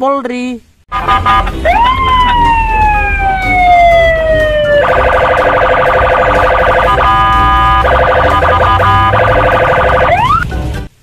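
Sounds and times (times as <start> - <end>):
police siren wailing: 0.9 - 10.5
low traffic rumble: 0.9 - 11.0.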